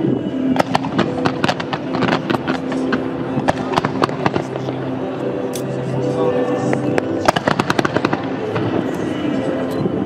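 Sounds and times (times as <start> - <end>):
fireworks bangs and crackles: 0.0 - 5.1, 6.6 - 10.0
steady droning tone: 0.0 - 10.0.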